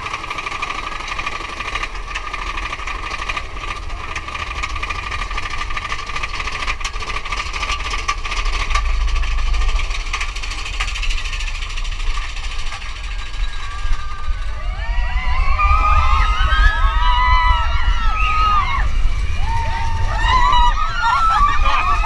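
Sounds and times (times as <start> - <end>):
metallic whine: 0.0 - 22.0
roller coaster wheels clattering on rails: 0.0 - 22.0
low rumble: 1.7 - 22.0.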